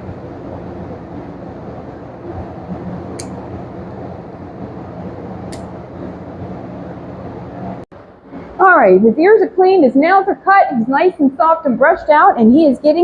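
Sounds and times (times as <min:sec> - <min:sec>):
fan whirring: 0:00.0 - 0:13.0.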